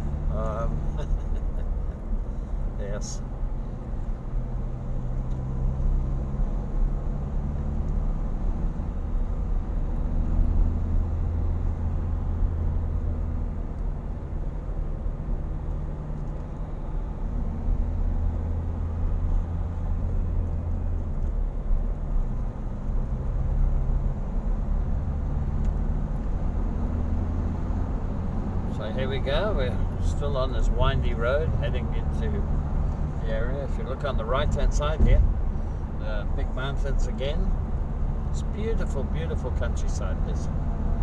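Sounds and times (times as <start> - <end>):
car engine inside cabin: 0.0 - 41.0
road noise: 0.0 - 41.0.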